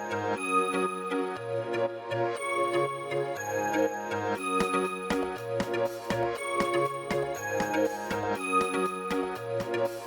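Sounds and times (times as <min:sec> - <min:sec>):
melodic electronic music: 0:00.0 - 0:10.0.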